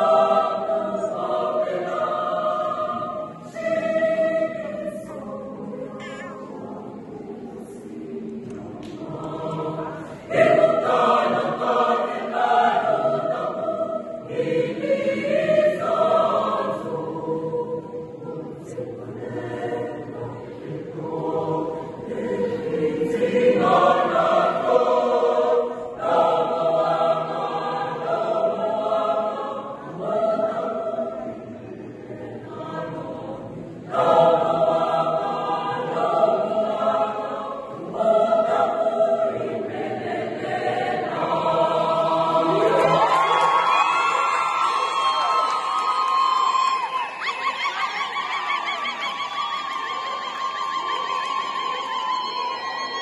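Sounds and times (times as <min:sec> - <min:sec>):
mixed choir singing: 0:00.0 - 0:53.0.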